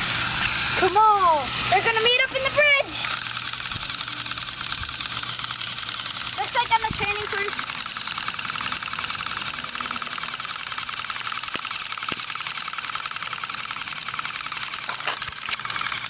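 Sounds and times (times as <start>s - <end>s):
toy train motors whirring: 0.0s - 16.0s.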